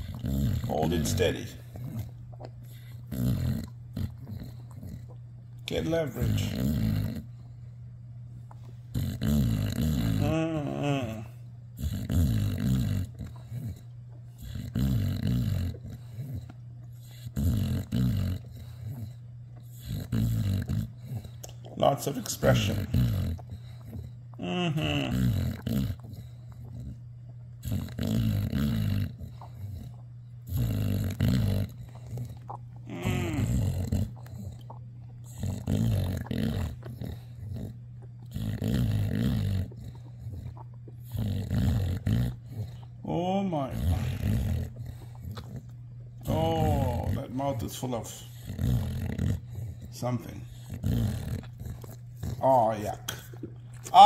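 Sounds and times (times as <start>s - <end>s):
dog grunting: 0.0s - 7.4s, 8.9s - 54.0s
dog chewing rope toy: 0.0s - 7.6s, 11.8s - 24.4s, 25.1s - 54.0s.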